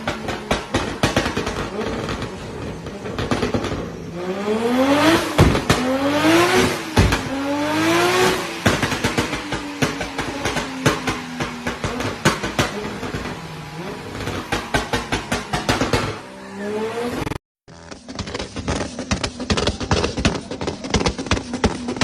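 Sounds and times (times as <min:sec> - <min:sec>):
exhaust crackling pops: 0:00.0 - 0:16.3, 0:17.7 - 0:22.0
car engine revving: 0:00.0 - 0:22.0.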